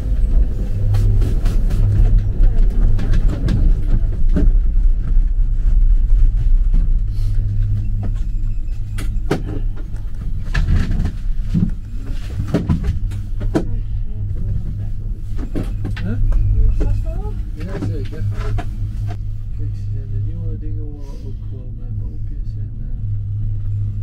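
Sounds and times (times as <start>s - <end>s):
gondola cabin rumble and hum: 0.0s - 24.0s.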